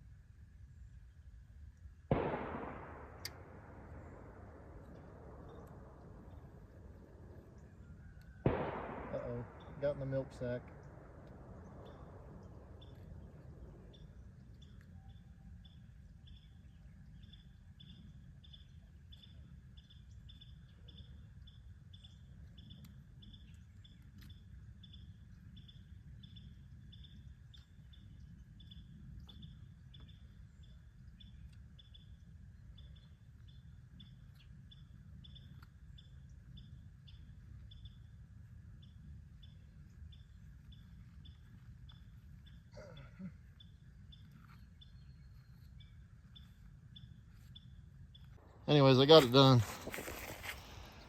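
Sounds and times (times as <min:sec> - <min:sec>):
low outdoor rumble: 0:00.0 - 0:51.0.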